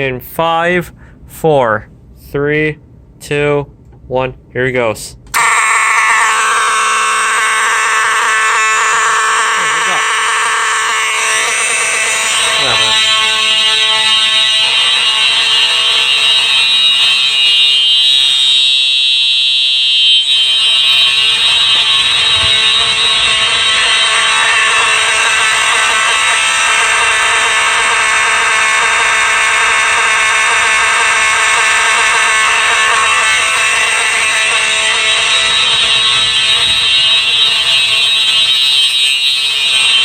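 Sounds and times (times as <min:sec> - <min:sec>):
fire alarm horn blaring: 0:05.3 - 0:40.0.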